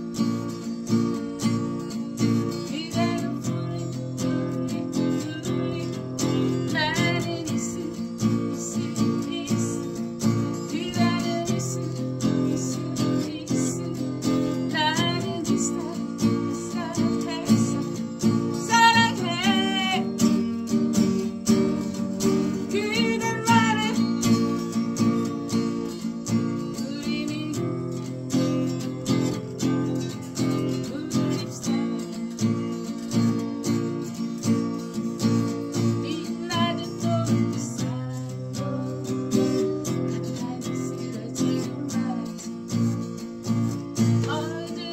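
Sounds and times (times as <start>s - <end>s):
acoustic guitar strumming: 0.0s - 44.9s
woman singing: 0.0s - 44.9s.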